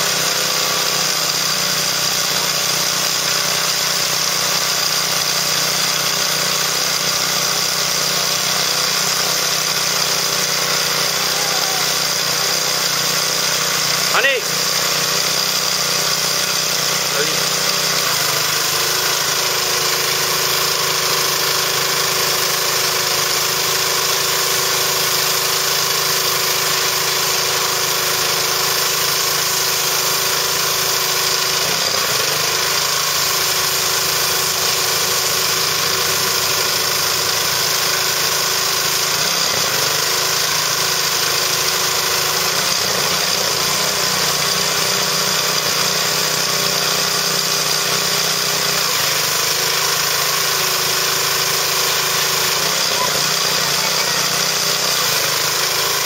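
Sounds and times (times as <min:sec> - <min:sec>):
pressure washer motor humming: 0:00.0 - 0:56.0
water jet hissing on tarp: 0:00.0 - 0:56.0.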